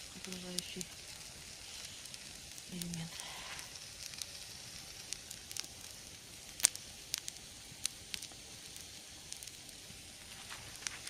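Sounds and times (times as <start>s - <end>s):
campfire crackling: 0.0s - 11.0s
fire hiss: 0.0s - 11.0s
fire popping: 0.0s - 11.0s.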